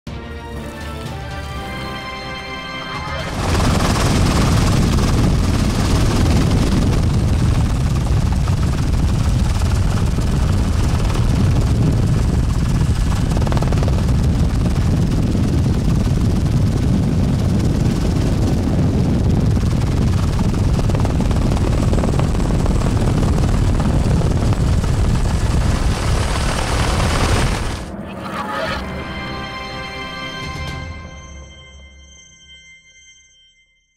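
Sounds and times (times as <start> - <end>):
helicopter rotor and engine drone: 0.9 - 28.9.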